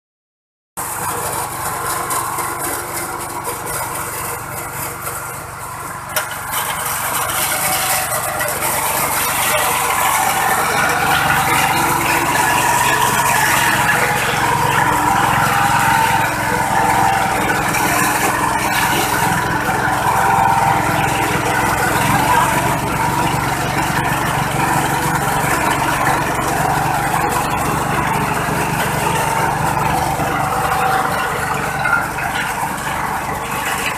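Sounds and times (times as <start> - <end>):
disk mill grinding: 0.9 - 33.9.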